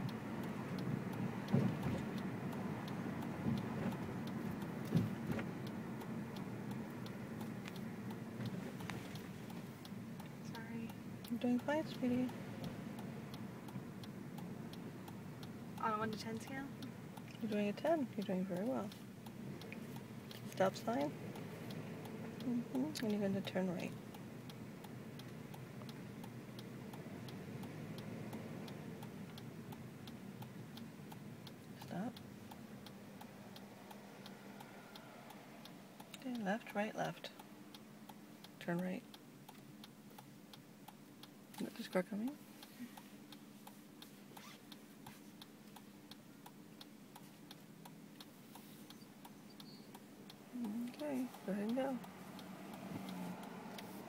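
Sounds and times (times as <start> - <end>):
car engine hum: 0.0 - 54.0
turn signal clicking: 0.0 - 54.0.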